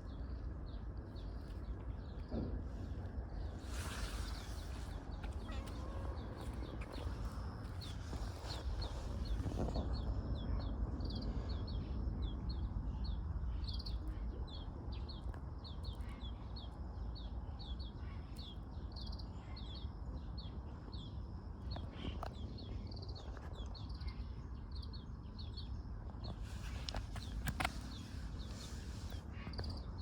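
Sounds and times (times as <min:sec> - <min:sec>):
low rumble of wind or traffic: 0:00.0 - 0:30.0.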